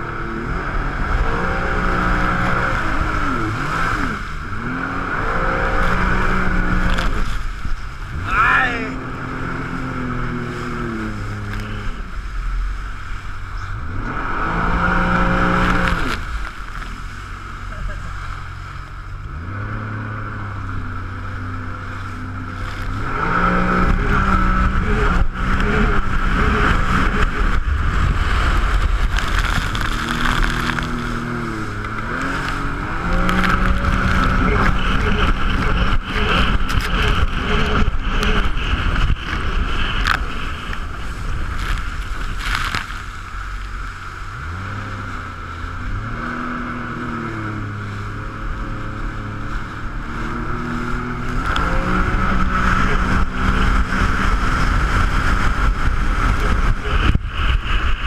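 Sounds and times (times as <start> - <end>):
jet ski engine revving: 0.0 - 58.0
steady rushing noise: 0.0 - 58.0.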